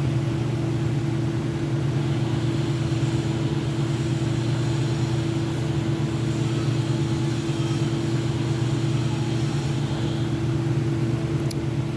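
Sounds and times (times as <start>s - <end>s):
engine humming steadily: 0.0s - 11.9s.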